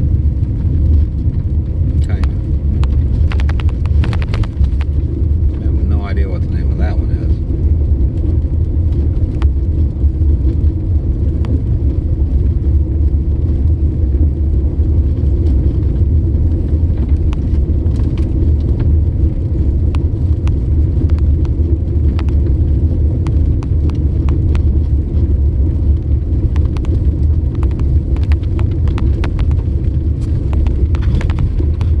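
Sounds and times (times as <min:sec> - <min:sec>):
car driving interior rumble: 0:00.0 - 0:32.0.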